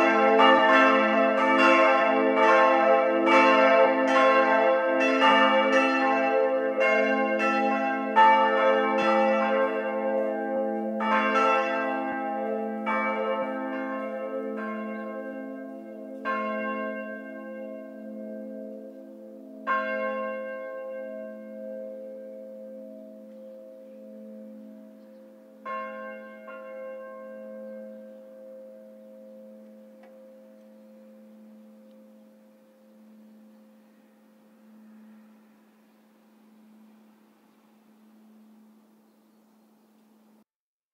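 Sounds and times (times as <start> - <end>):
church bells ringing: 0.0 - 39.0.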